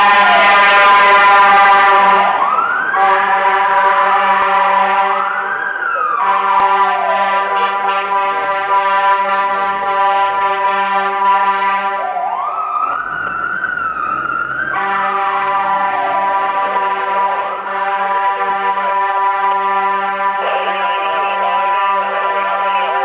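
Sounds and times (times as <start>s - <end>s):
fire truck air horn blasting: 0.0s - 12.3s, 14.6s - 23.0s
wailing siren: 0.0s - 23.0s.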